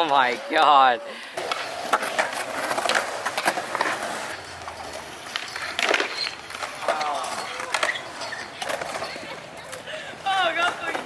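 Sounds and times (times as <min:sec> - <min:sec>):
skate wheels rolling on concrete: 0:00.0 - 0:11.0.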